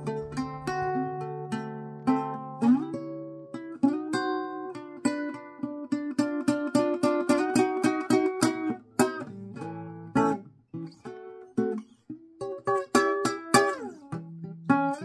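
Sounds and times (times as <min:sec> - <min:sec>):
fingerpicked acoustic guitar blues: 0:00.0 - 0:15.0.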